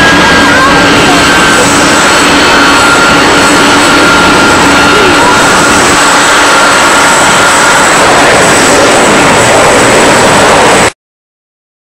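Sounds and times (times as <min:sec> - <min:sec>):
high engine whine: 0:00.0 - 0:11.0
jet engines roaring: 0:00.0 - 0:11.0.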